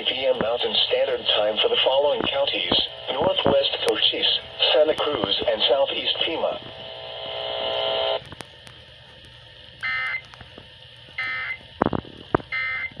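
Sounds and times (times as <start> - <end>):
steady buzzing tone: 0.0 - 13.0.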